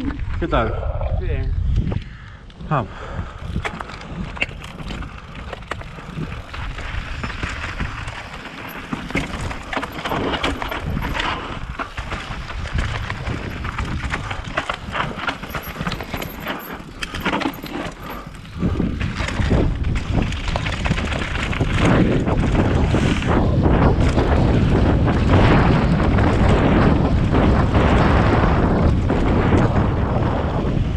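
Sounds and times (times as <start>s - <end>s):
bike clattering over bumps: 3.4s - 30.9s
tyres rolling over dirt and stones: 3.5s - 30.9s.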